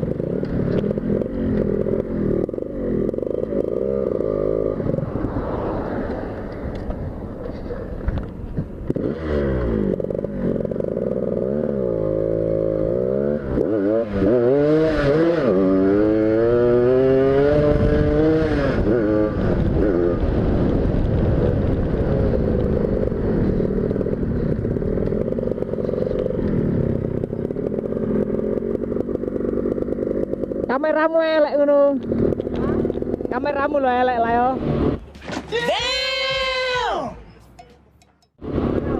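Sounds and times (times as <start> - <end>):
motorcycle engine revving: 0.0 - 8.0, 8.7 - 35.2, 38.3 - 38.9.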